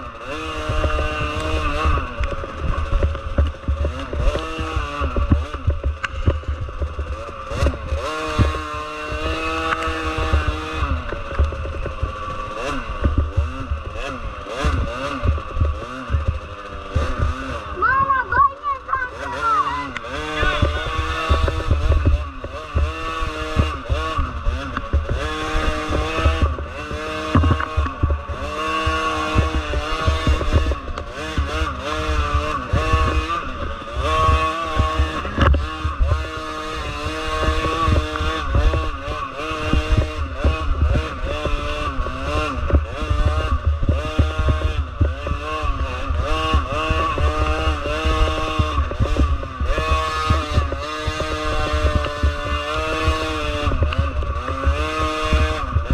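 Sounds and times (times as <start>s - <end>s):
dirt-bike engines revving: 0.0s - 55.9s.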